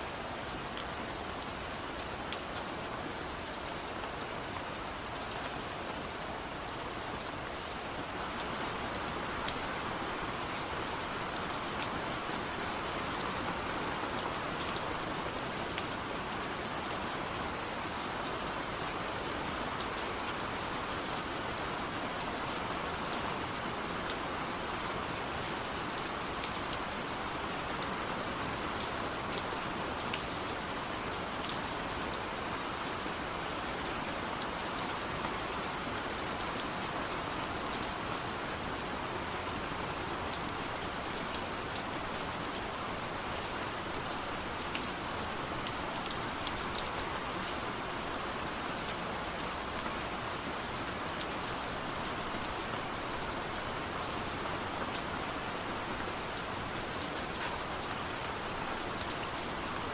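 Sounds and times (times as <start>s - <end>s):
rain falling on a surface: 0.0s - 59.9s.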